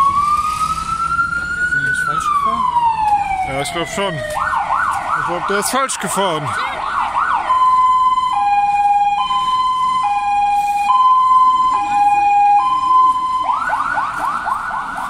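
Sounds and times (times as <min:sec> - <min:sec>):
fire engine siren: 0:00.0 - 0:15.0.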